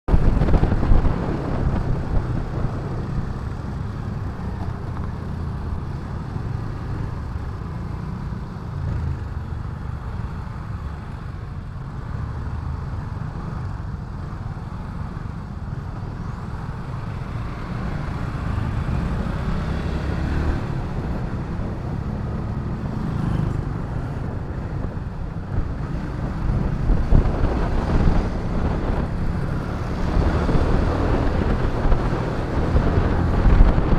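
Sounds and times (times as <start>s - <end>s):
road noise: 0.0s - 33.9s
motorcycle engine cruising: 0.1s - 33.9s.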